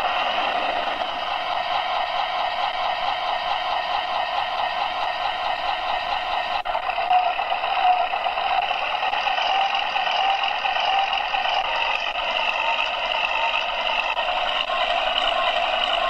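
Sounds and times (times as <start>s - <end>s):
tank engine sound effect on speaker: 0.0s - 16.0s.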